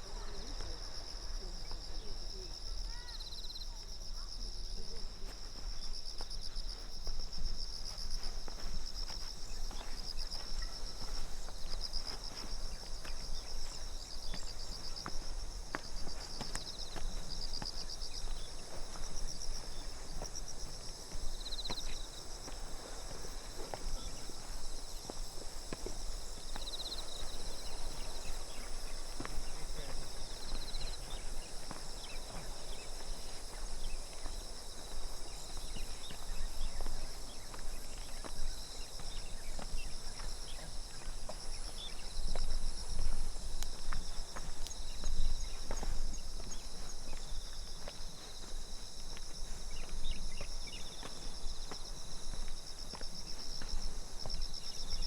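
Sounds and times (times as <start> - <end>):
footsteps on a path: 0.0 - 55.0
insects trilling: 0.0 - 55.0.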